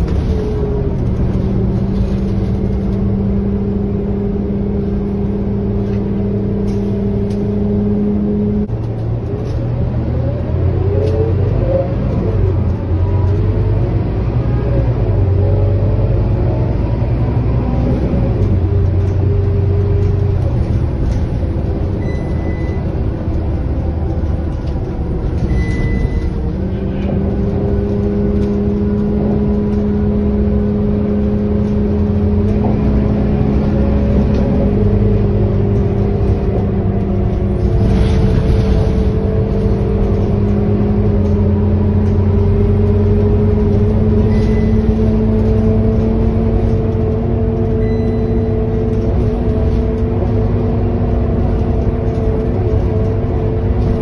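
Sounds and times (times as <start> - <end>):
bus engine low rumble: 0.0 - 54.0.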